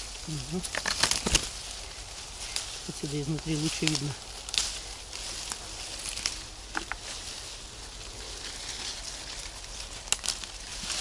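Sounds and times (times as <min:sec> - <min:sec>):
leafy branches rustling: 0:00.0 - 0:11.0
twigs clicking: 0:00.0 - 0:11.0.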